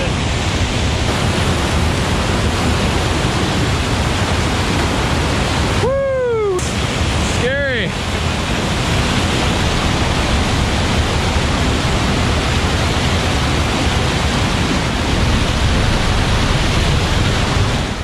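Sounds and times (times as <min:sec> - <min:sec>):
rushing mountain stream: 0:00.0 - 0:18.0.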